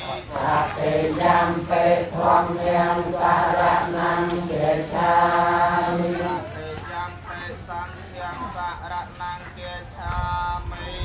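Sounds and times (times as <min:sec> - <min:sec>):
men chanting: 0:00.0 - 0:11.0.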